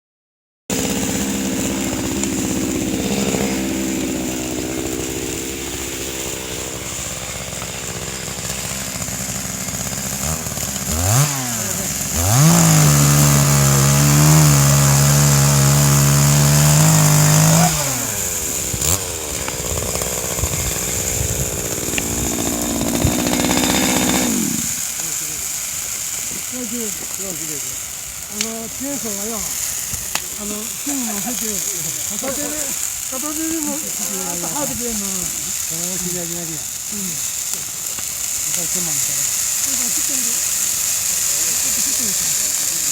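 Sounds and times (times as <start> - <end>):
chainsaw engine idling and revving: 0.7 - 42.9.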